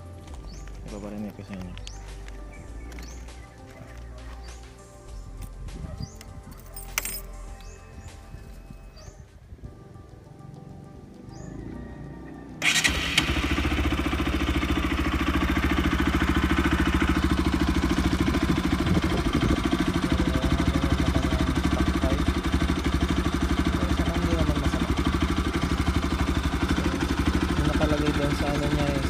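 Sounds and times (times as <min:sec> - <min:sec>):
motorcycle engine idling: 0:00.3 - 0:09.2, 0:12.5 - 0:29.0.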